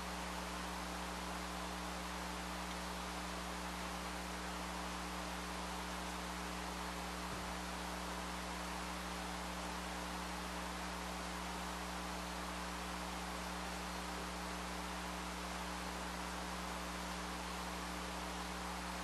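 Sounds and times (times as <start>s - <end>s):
constant hiss: 0.0s - 19.0s.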